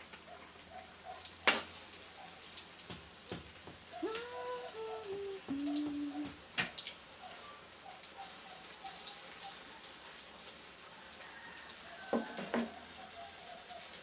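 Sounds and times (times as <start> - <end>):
banana slices sizzling in oil: 0.0 - 14.0.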